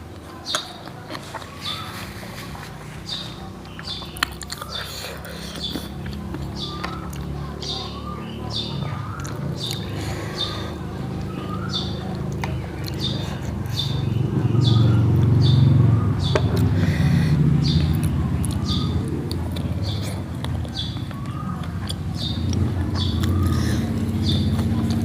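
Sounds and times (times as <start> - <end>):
bird chirping: 0.3 - 25.0.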